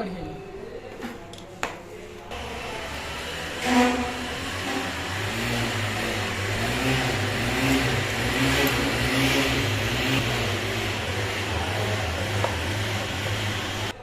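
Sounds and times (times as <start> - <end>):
vehicle engine running: 2.3 - 14.0.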